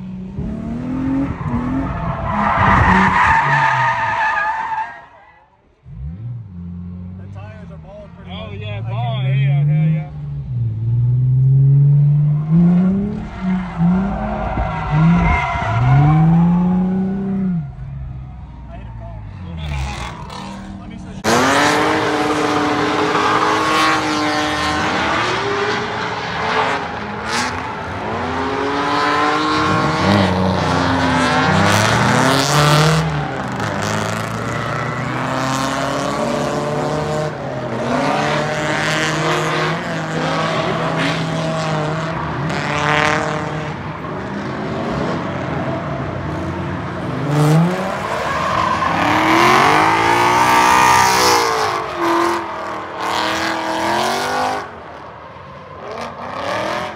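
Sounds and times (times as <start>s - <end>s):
car engine revving: 0.0s - 4.8s, 5.8s - 55.0s.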